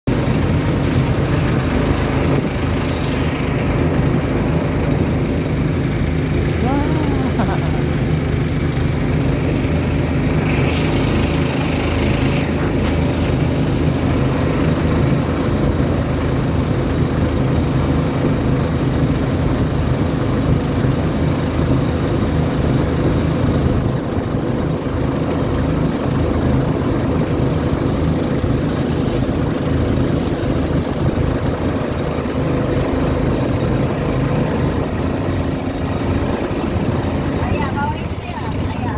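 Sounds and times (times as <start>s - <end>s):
boat engine droning: 0.1s - 38.9s.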